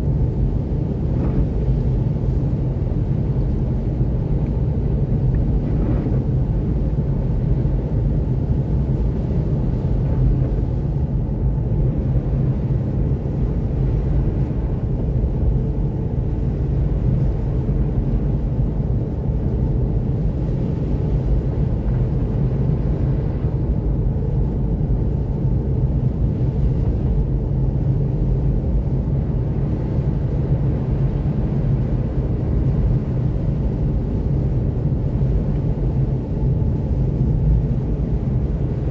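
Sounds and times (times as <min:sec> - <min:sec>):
wind noise: 0:00.0 - 0:38.9.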